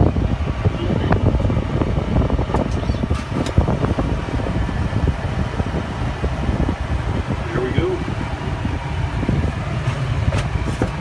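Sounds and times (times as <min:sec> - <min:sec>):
bulldozer diesel engine rumbling: 0:00.0 - 0:11.0.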